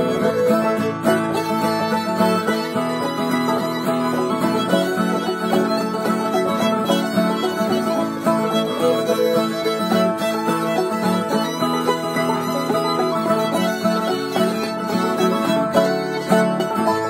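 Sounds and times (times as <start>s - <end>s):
fiddle playing a melody: 0.0s - 17.0s
plucked string instruments: 0.0s - 17.0s
strummed guitars: 0.0s - 17.0s.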